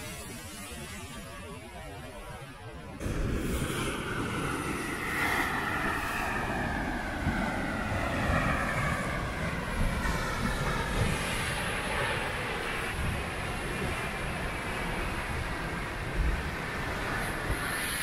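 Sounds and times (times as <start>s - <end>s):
passing engine drone: 2.9s - 18.0s
wind buffeting microphone: 3.0s - 18.0s.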